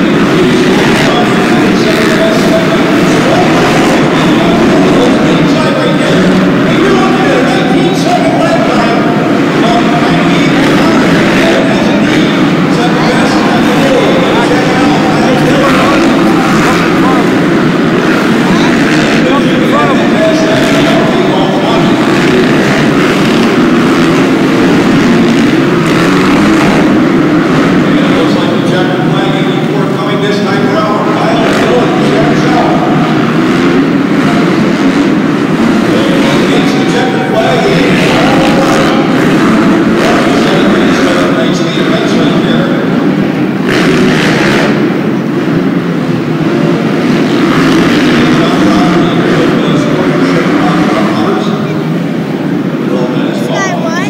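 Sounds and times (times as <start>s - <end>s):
dirt bike engines racing: 0.0s - 54.0s.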